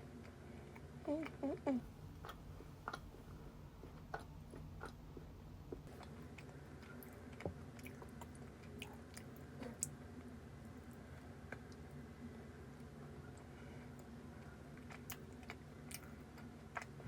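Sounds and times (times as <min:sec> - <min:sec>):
low steady hum: 0:00.0 - 0:17.0
chewing crunchy cookie: 0:02.1 - 0:12.1, 0:12.8 - 0:17.0.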